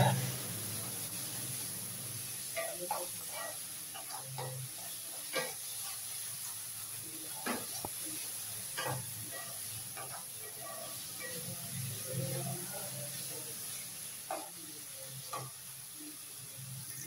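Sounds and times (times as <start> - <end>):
quiet sizzle of frying: 0.0 - 17.0.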